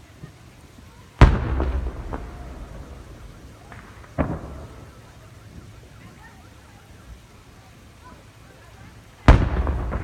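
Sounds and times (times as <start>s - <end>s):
fireworks exploding: 0.0s - 7.2s, 8.6s - 10.0s
faint crackling: 0.0s - 10.0s.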